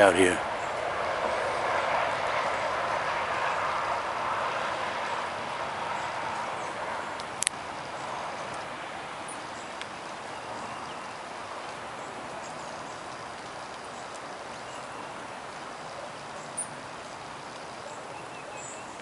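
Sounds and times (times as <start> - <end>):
light rain hissing: 0.0 - 19.0.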